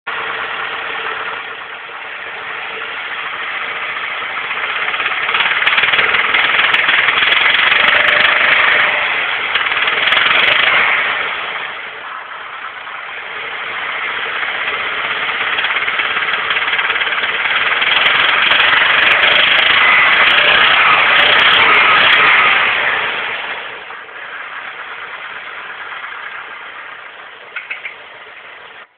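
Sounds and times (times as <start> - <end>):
car engine revving: 0.1 - 28.9.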